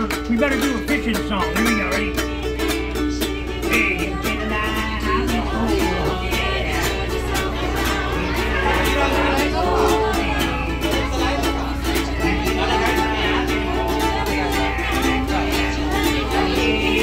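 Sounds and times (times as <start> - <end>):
man singing: 0.0 - 6.6, 8.2 - 17.0
ukulele strumming: 0.0 - 17.0.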